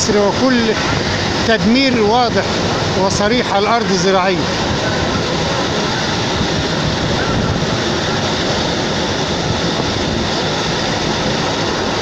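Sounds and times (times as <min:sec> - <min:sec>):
moving train running noise: 0:00.0 - 0:12.0.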